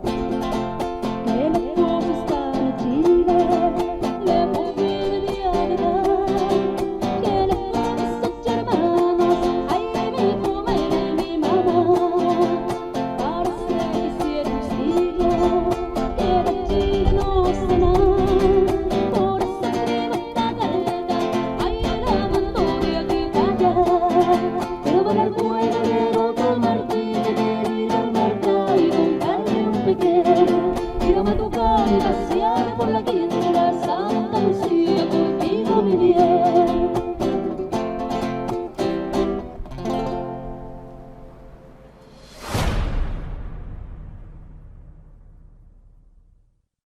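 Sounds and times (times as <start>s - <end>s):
strummed guitar: 0.0s - 42.1s.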